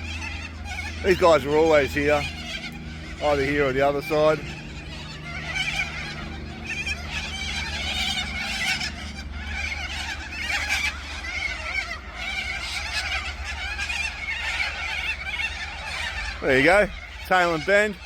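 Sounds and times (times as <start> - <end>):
flock of birds screeching: 0.0 - 18.0
steady low hum: 0.0 - 18.0.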